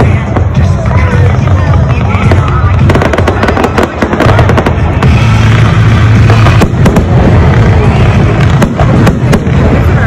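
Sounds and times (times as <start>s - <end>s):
fireworks bangs and crackles: 0.0s - 10.0s
low rumble: 0.0s - 10.0s.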